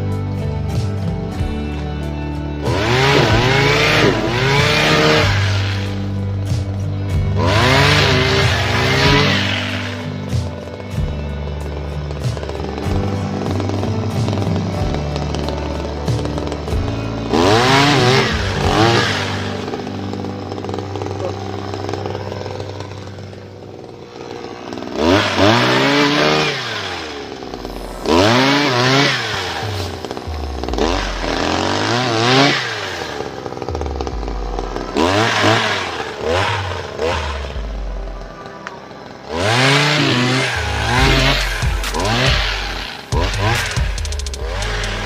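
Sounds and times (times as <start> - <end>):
small engine revving: 0.0 - 45.0.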